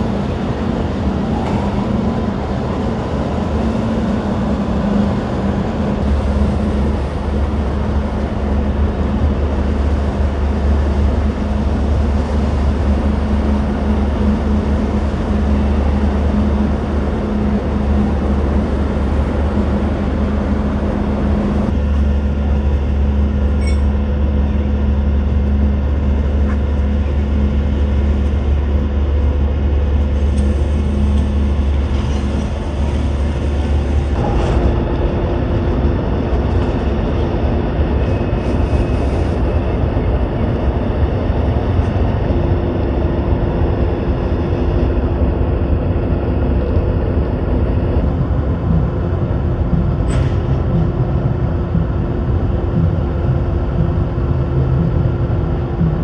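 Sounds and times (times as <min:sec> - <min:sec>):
faint hum: 0:00.0 - 0:56.0
loud low rumble: 0:00.0 - 0:56.0.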